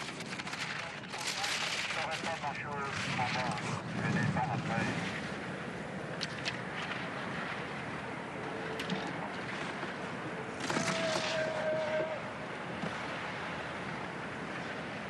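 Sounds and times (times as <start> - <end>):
skis on snow: 0.0 - 15.0
crowd noise: 0.5 - 14.6.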